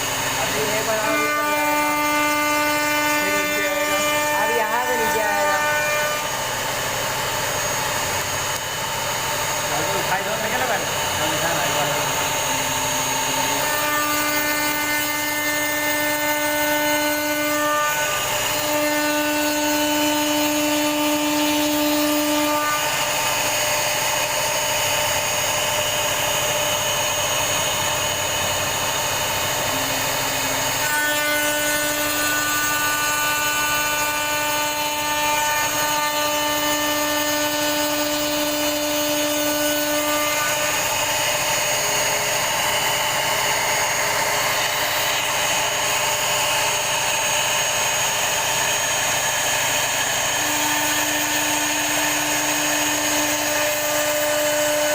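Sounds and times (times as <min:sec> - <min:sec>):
router spindle cutting wood: 0:00.0 - 0:54.9.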